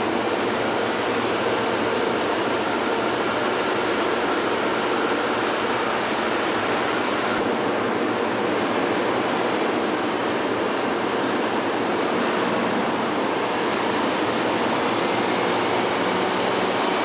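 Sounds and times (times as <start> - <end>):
factory hall rushing noise: 0.0 - 17.0.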